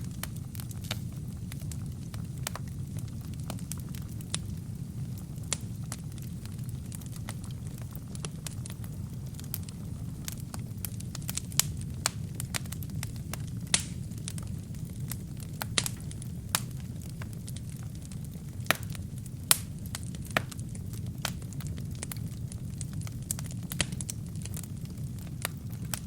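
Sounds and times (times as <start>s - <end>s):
burning wood crackling and popping: 0.0s - 26.0s
fire flames rumbling: 0.0s - 26.0s.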